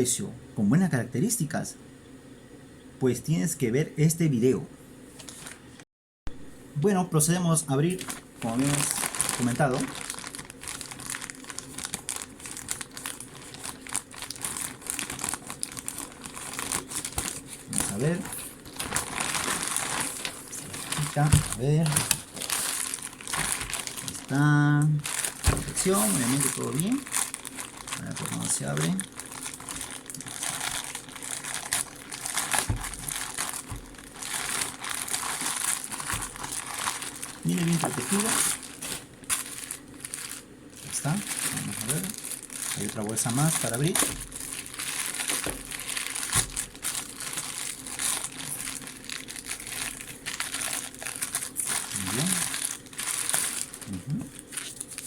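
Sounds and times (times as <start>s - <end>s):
plastic packaging crinkling: 5.2s - 5.6s, 7.7s - 55.0s.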